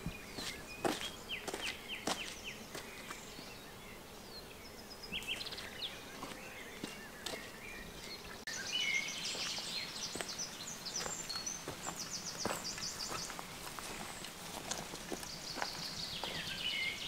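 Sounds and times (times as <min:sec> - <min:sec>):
footsteps on dirt track: 0:00.0 - 0:03.3, 0:05.2 - 0:08.2, 0:09.2 - 0:17.0
birds chirping and trilling: 0:00.0 - 0:17.0.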